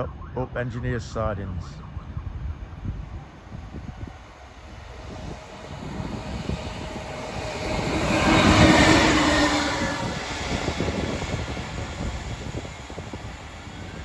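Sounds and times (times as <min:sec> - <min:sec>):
diesel locomotive passing: 0:02.5 - 0:14.0.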